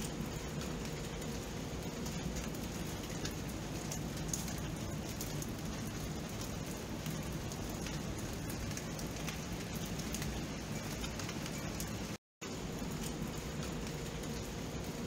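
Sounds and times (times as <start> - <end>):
rain falling: 0.0 - 15.0
raindrops ticking: 0.0 - 15.0.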